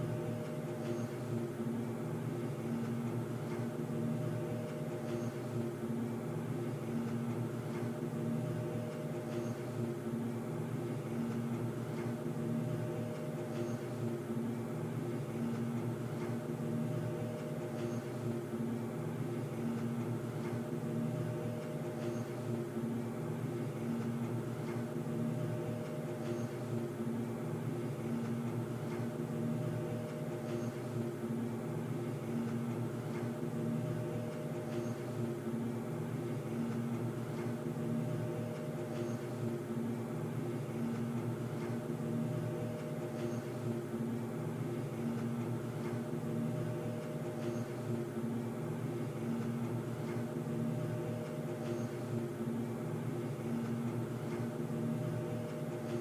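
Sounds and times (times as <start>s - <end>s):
low hum of held tones: 0.0s - 56.0s.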